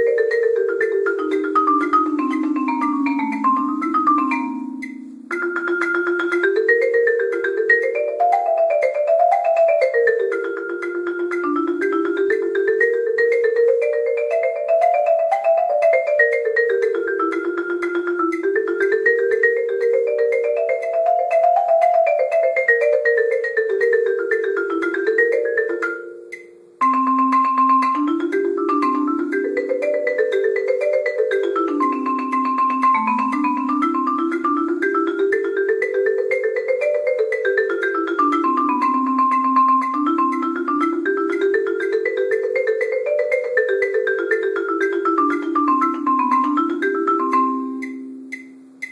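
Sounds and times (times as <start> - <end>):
marimba fast runs: 0.0 - 48.9.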